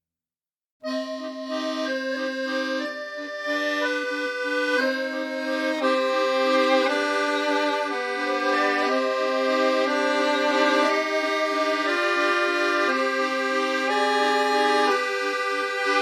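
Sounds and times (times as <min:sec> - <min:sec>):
accordion music: 0:00.8 - 0:16.0.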